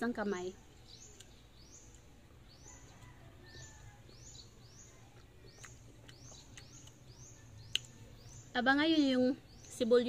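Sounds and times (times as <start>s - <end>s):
small bird chirping: 0.1s - 10.0s.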